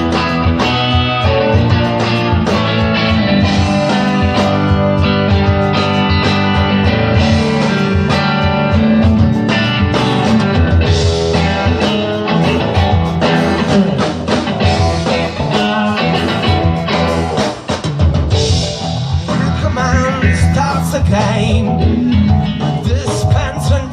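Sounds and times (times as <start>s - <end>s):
drum kit: 0.0s - 23.9s
electric guitars: 0.0s - 23.9s.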